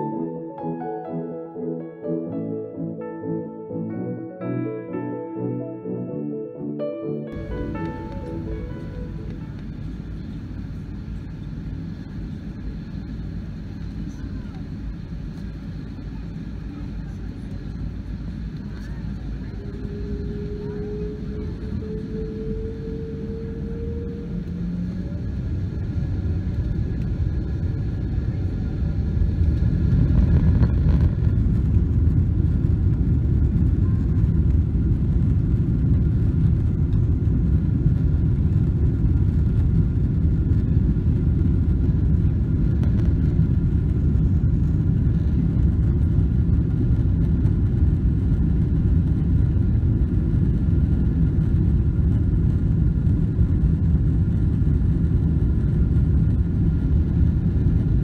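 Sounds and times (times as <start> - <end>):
wheels rumbling on runway: 7.4 - 58.0.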